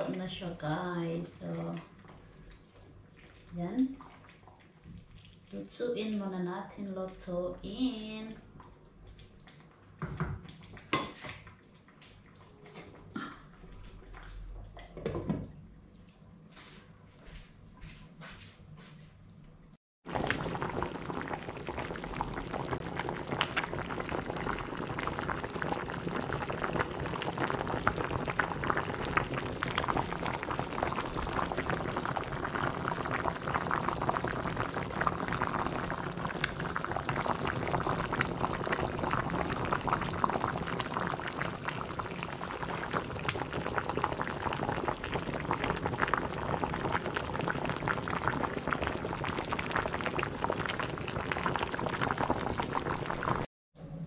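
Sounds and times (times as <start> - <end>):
stew bubbling in a pot: 0.0 - 15.6, 20.0 - 53.5.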